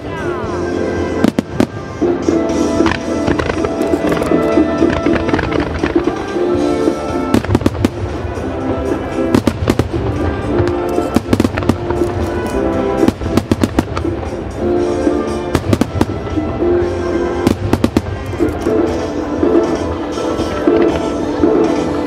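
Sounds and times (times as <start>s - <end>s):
fireworks bursting with sharp bangs: 0.0s - 22.0s
music: 0.0s - 22.0s.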